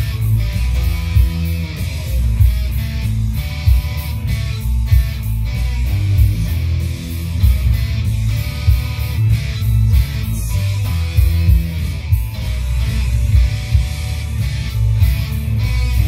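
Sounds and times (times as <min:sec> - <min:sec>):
electric guitar rock riff: 0:00.0 - 0:16.0.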